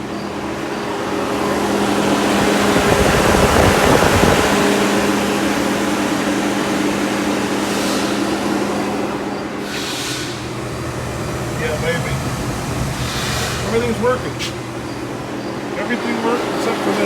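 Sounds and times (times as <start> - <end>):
blower fan humming with air rush: 0.0 - 17.0.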